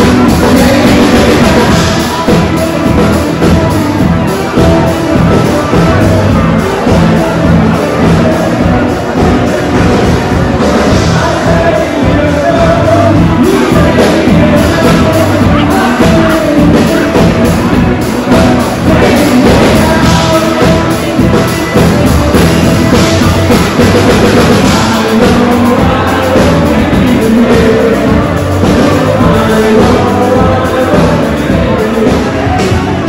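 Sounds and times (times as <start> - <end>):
person singing: 0.0 - 33.0
rock and roll band: 0.0 - 33.0.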